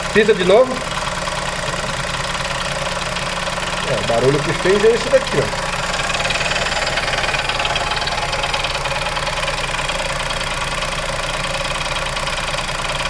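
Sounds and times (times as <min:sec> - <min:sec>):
car engine idling: 0:00.8 - 0:12.3.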